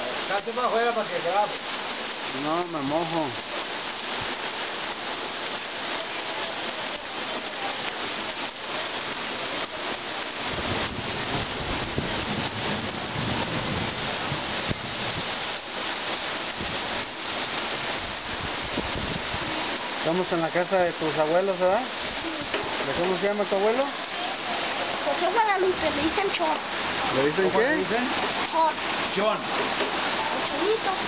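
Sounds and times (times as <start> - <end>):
heavy rain on cobblestones: 0.0 - 31.0.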